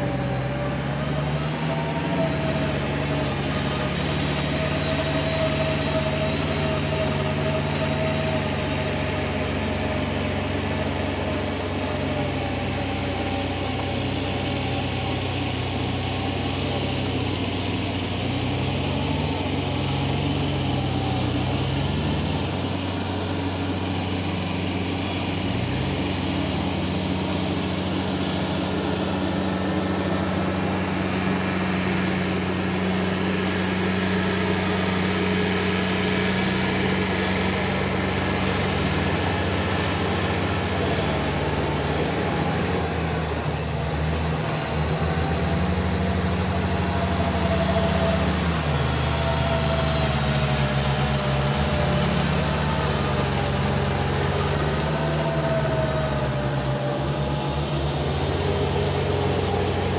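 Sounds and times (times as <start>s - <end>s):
tractor diesel engines running: 0.0s - 59.9s.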